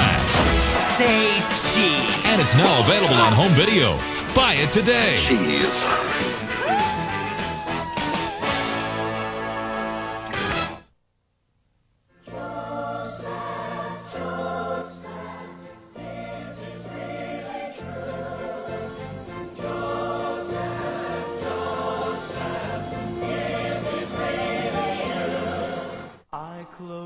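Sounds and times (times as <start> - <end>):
choir-like voices holding chords: 0.0 - 10.4, 12.2 - 26.6.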